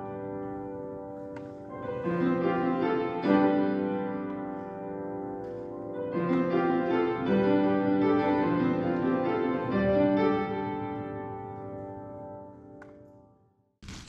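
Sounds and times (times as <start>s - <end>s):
piano chords: 0.0s - 13.5s.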